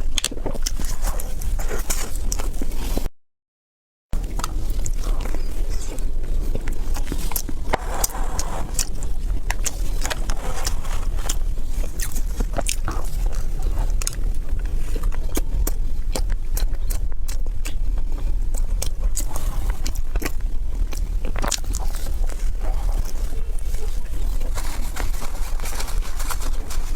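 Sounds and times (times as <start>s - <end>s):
chewing crisp food: 0.0s - 3.1s, 4.2s - 26.9s
steady low rumble: 4.2s - 26.9s.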